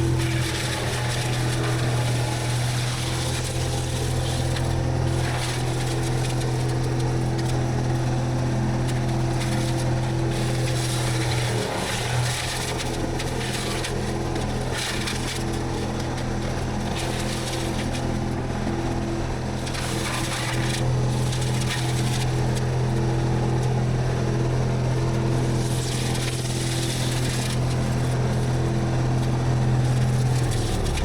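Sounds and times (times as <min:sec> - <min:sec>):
machine engine running under load: 0:00.0 - 0:31.0.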